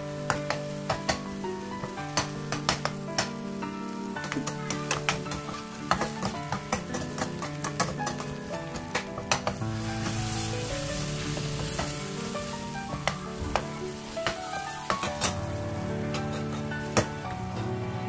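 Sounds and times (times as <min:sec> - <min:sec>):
background music: 0:00.0 - 0:18.0
food sizzling in a frying pan: 0:00.0 - 0:18.0.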